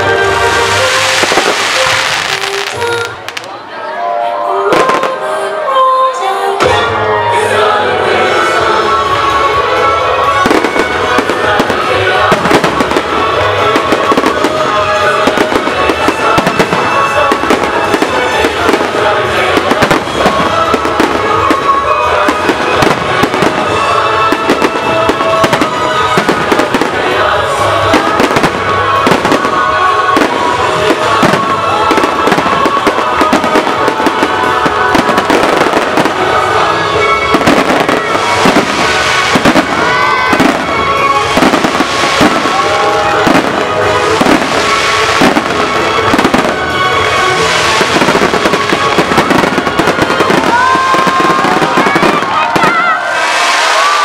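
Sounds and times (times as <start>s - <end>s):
fireworks bangs and crackles: 0.0s - 3.6s, 4.7s - 5.2s, 8.2s - 54.0s
music: 0.0s - 54.0s.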